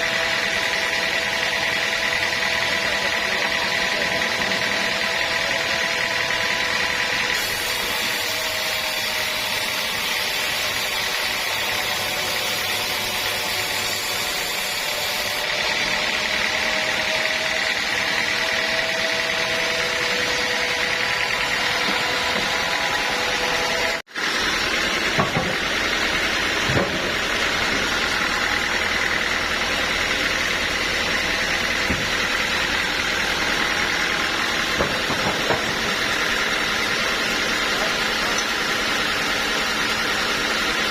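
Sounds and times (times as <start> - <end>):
sawmill machinery whining: 0.0 - 40.9.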